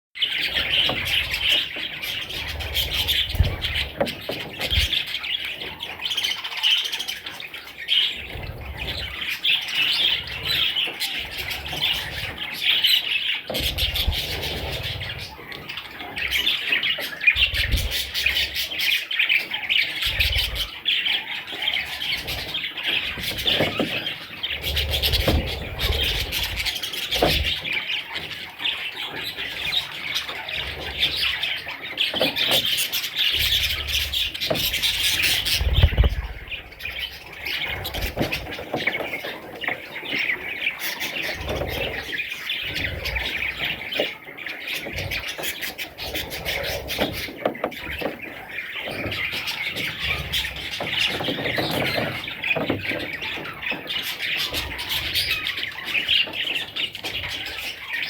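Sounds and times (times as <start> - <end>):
bird chicks chirping and squawking: 0.2 - 58.0.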